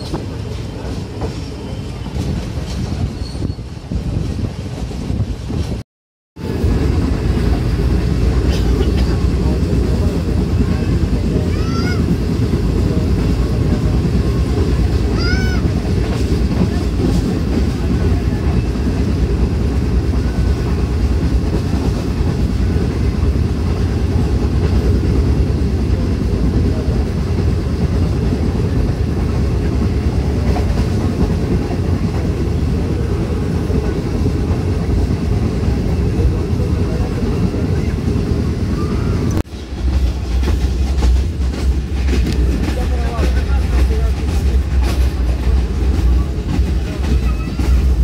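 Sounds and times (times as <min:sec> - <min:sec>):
train rumbling on rails: 0:00.0 - 0:05.8, 0:06.4 - 0:48.0.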